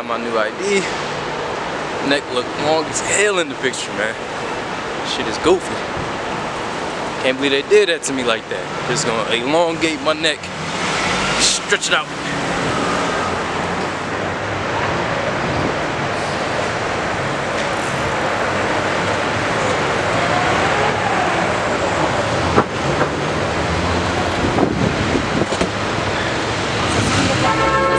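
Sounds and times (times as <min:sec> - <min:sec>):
hum of passing vehicles: 0:00.0 - 0:27.9.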